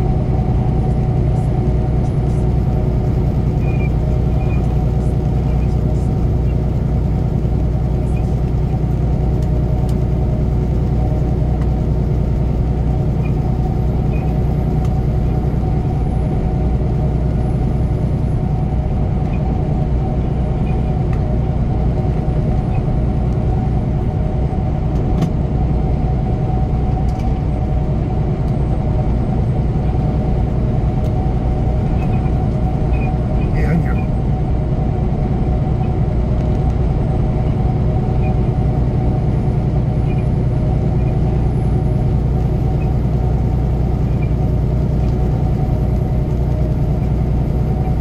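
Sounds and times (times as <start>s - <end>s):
truck engine drone in cab: 0.0s - 48.0s.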